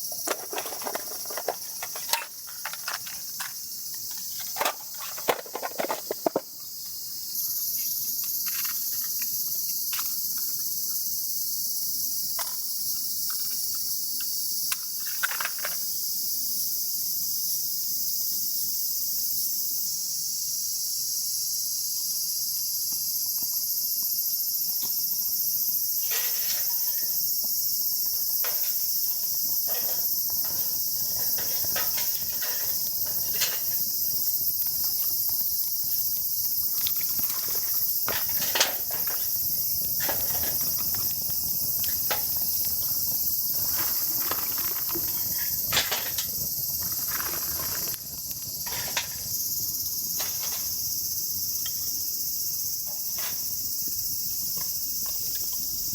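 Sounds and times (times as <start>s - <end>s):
insects chorus: 0.0s - 55.9s.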